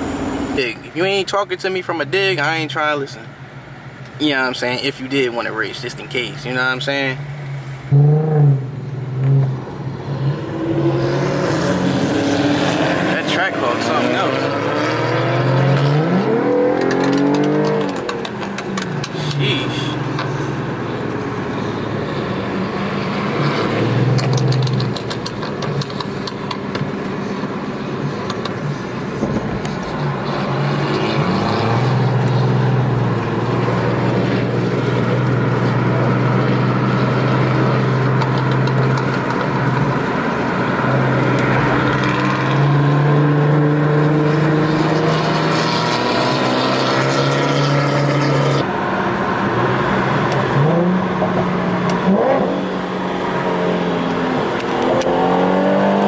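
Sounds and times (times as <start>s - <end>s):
car engines running: 0.0s - 56.0s.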